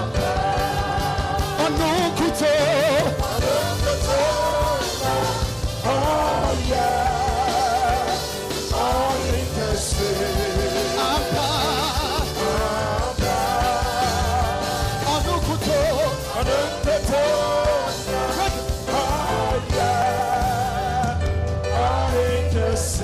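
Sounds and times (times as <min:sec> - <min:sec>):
band accompaniment: 0:00.0 - 0:23.0
person singing with vibrato: 0:00.0 - 0:23.0.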